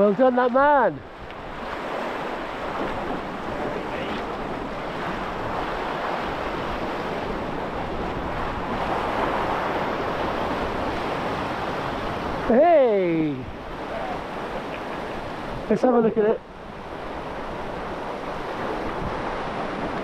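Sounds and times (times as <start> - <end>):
surf breaking on rocky shore: 0.0 - 20.0
wind on microphone: 1.0 - 15.8, 16.4 - 20.0.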